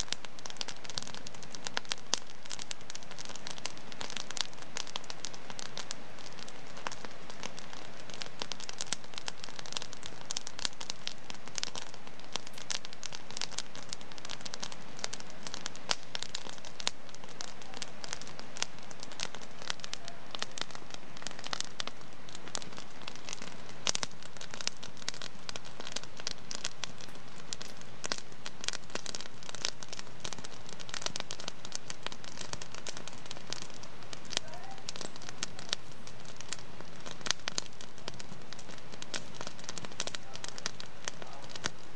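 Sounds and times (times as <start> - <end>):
pops and snaps of fire: 0.0 - 41.9
soft hiss: 0.0 - 41.9
wood fire crackling: 0.0 - 41.9.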